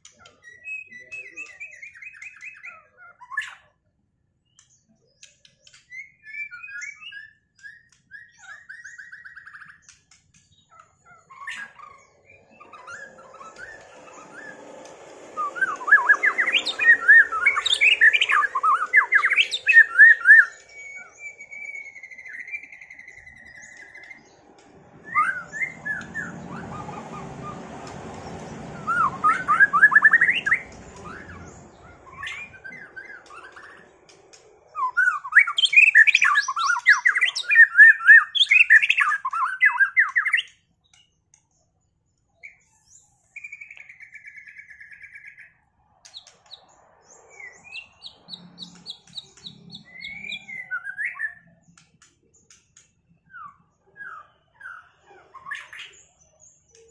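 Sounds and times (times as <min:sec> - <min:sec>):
birds singing trills and whistles: 0:00.0 - 0:56.9.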